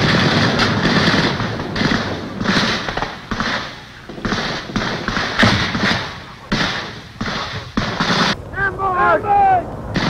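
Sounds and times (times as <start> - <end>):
gunshots with echo: 0.0 - 8.4.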